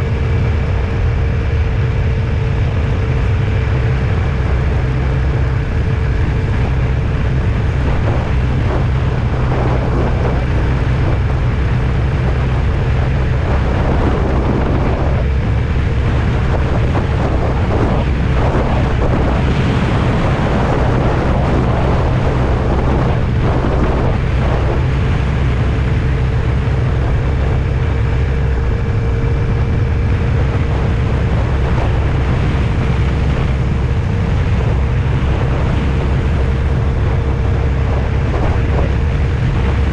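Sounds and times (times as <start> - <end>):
engine and road rumble: 0.0 - 39.9
wind noise: 0.0 - 39.9.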